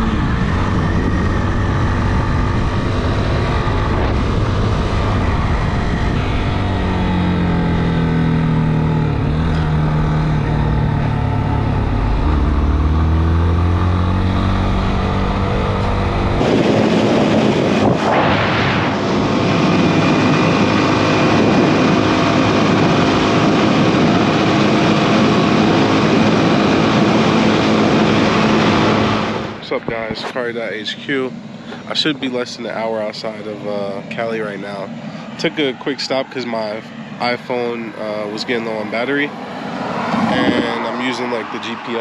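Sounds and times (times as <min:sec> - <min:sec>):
rushing wind noise: 0:00.0 - 0:30.4, 0:34.7 - 0:42.0
motorcycle engine revving: 0:00.0 - 0:42.0.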